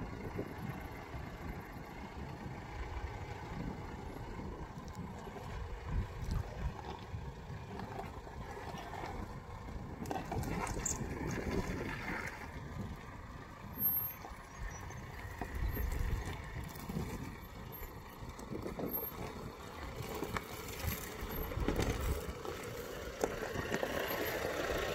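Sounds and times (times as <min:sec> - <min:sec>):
engine running at low revs: 0:00.0 - 0:24.9.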